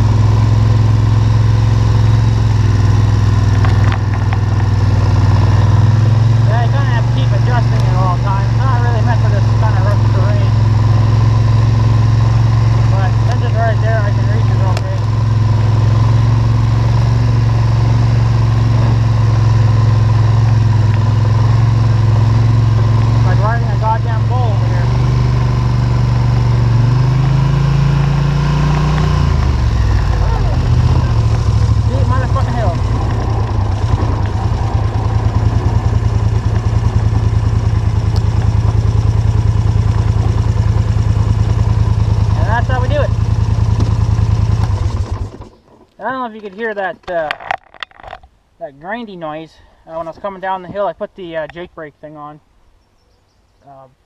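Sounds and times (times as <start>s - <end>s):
atv engine running: 0.0s - 48.3s.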